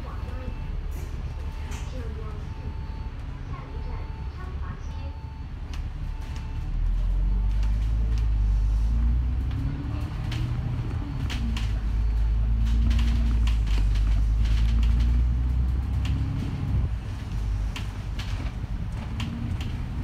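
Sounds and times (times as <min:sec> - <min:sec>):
bus body rattling and creaking: 0:00.0 - 0:20.0
bus diesel engine under load: 0:00.0 - 0:20.0.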